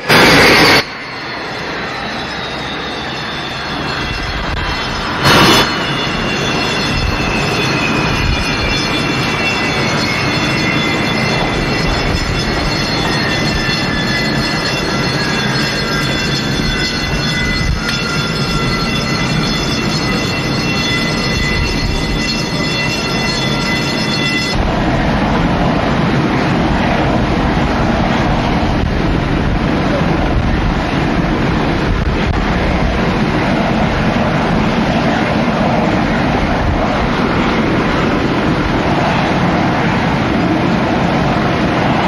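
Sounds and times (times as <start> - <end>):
jet engines winding down: 0.0 - 42.0
loud burst of noise: 0.0 - 42.0
other steady whining tones: 0.0 - 42.0.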